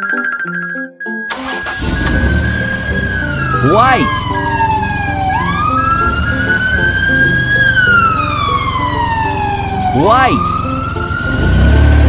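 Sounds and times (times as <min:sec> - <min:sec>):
background music: 0:00.0 - 0:12.0
ambulance siren wailing: 0:01.3 - 0:12.0.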